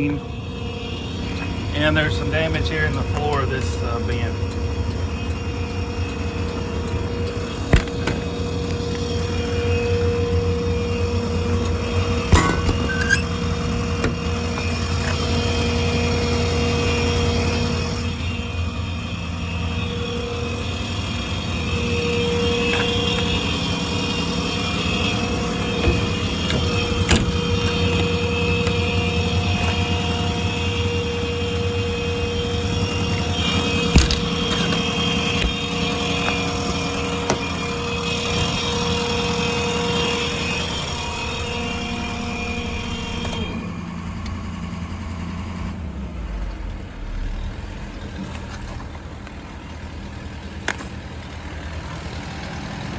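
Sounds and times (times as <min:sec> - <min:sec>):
high steady whine: 0:00.0 - 0:50.8
diesel engine idling: 0:00.0 - 0:52.9.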